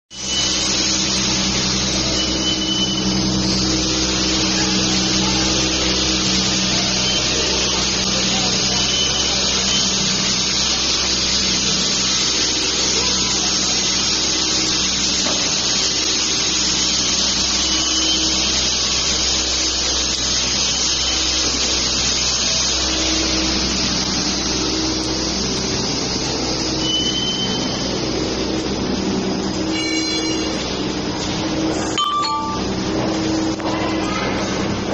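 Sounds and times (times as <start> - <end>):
electric motor hum: 0.2 - 33.6.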